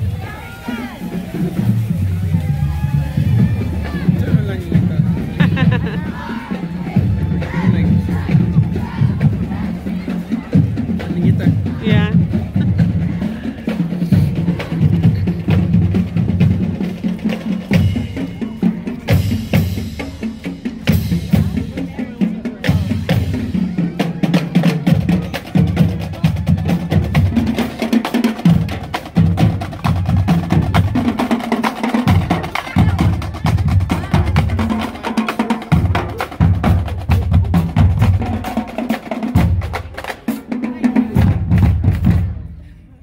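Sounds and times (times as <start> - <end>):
bass drum beats: 0.0 - 42.5.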